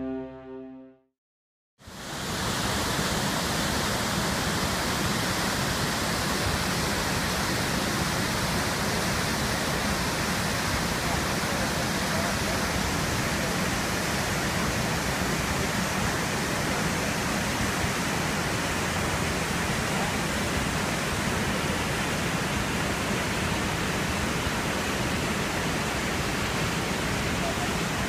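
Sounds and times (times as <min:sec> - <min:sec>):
waterfall rushing: 0:01.9 - 0:28.0.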